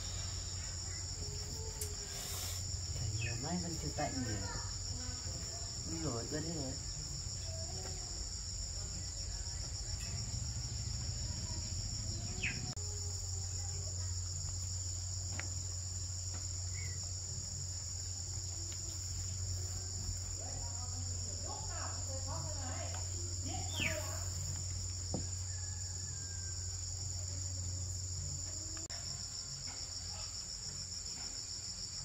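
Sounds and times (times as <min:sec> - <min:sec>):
night insects chirring: 0:00.0 - 0:32.0.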